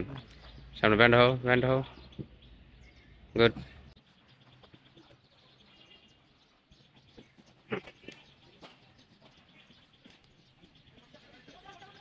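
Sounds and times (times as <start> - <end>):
faint bird chirps: 1.6 - 12.0.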